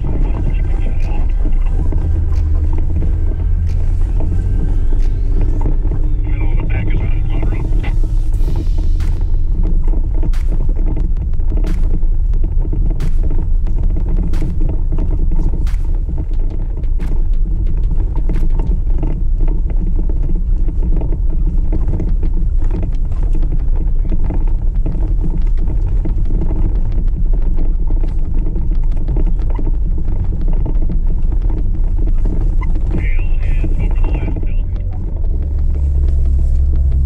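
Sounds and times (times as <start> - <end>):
vehicle engine and tyres rumbling: 0.0 - 37.0
vehicle knocks and rattles: 0.0 - 37.0.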